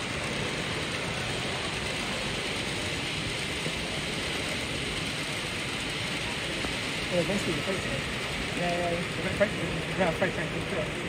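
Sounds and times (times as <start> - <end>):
busy hall background hiss: 0.0 - 11.0
model train whirring and rattling: 0.0 - 11.0.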